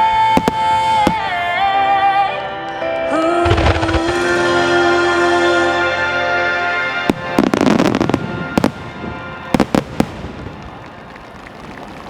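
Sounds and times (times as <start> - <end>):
firework crackling: 0.0 - 12.0
music: 0.0 - 12.0
firework shells bursting: 0.3 - 12.0.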